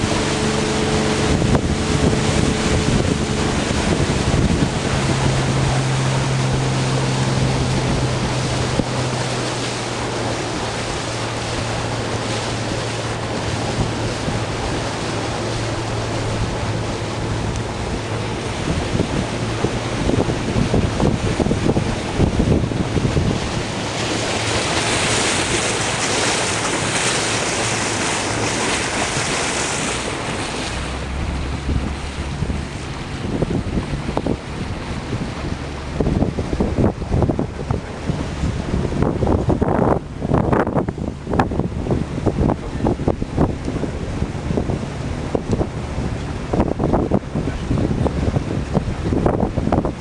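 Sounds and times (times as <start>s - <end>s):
boat engine hum: 0.0s - 50.0s
water rushing along hull: 0.0s - 50.0s
wind buffeting microphone: 0.0s - 50.0s.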